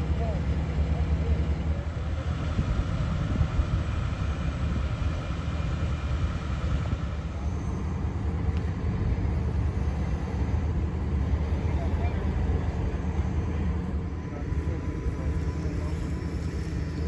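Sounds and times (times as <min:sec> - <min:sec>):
fire engine idling: 0:00.0 - 0:17.0.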